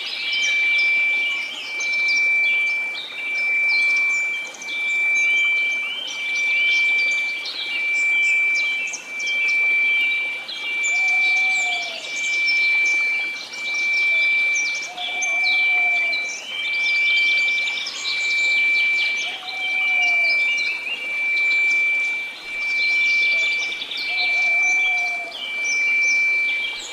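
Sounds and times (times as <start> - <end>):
birdsong chirps: 0.0 - 26.9
pure tone: 0.0 - 26.9.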